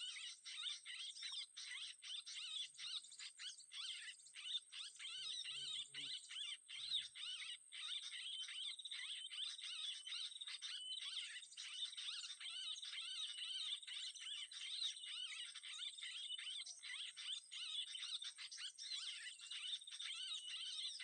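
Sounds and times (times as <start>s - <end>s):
birds chirping and twittering: 0.0s - 21.0s.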